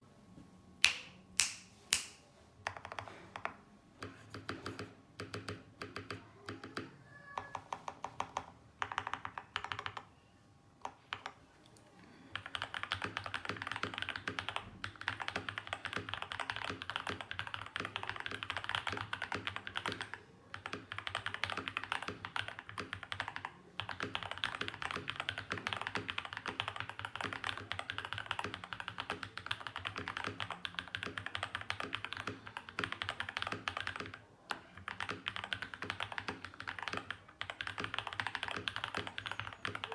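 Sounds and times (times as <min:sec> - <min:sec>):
mechanical keyboard typing: 0:02.6 - 0:10.1, 0:12.3 - 0:39.9.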